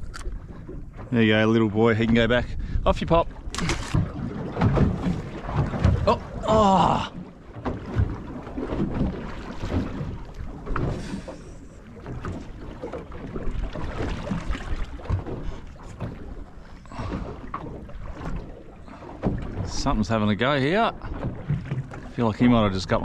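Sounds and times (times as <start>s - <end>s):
water slapping against boat hull: 0.0s - 23.0s.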